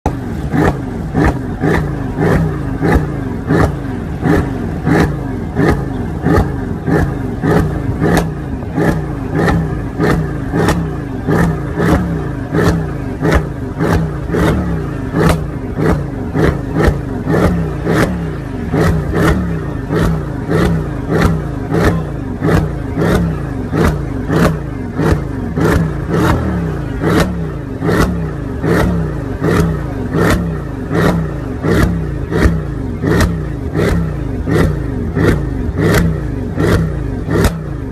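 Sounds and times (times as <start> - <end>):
car engine revving: 0.0 - 37.9
exhaust crack: 0.0 - 37.9.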